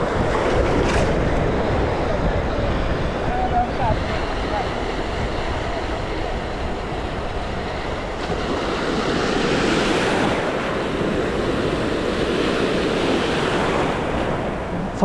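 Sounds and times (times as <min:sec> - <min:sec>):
sea surf breaking on a beach: 0:00.0 - 0:15.0
wind rumbling on microphone: 0:00.0 - 0:15.0.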